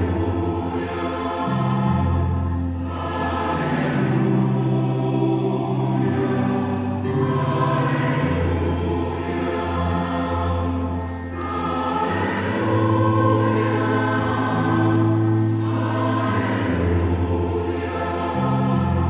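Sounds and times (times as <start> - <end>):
choir singing held chords: 0.0 - 19.0.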